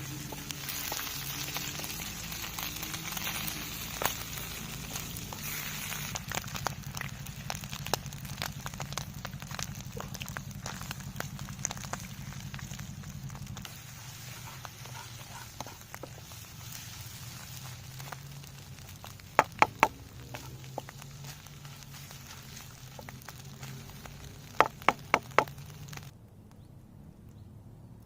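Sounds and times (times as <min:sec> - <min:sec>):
campfire hissing and crackling: 0:00.0 - 0:26.1
sharp loud cracks of fire: 0:00.0 - 0:26.1.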